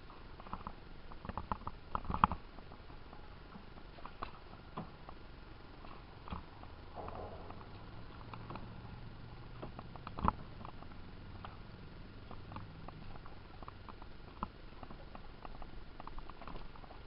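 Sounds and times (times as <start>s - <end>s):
water drips and ticks: 0.1s - 17.0s.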